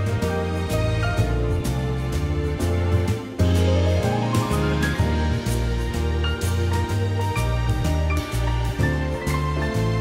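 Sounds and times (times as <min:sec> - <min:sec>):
melodic music with bass and beat: 0:00.0 - 0:10.0.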